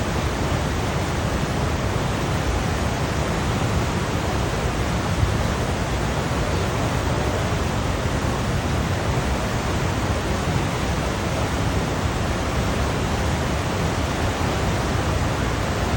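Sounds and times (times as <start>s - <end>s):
ocean waves rushing: 0.0s - 15.9s.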